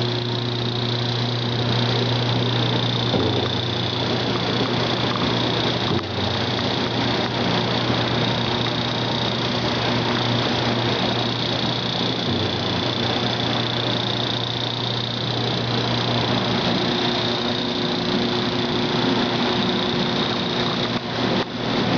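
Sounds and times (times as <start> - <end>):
faint high whine: 0.0 - 21.9
washing machine running: 0.0 - 21.9.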